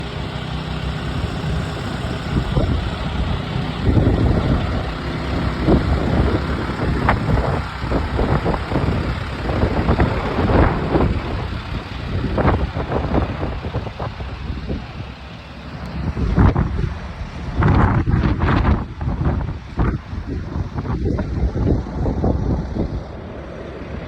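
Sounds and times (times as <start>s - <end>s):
vehicle engine running: 0.0s - 24.0s
wind buffeting microphone: 0.0s - 24.0s.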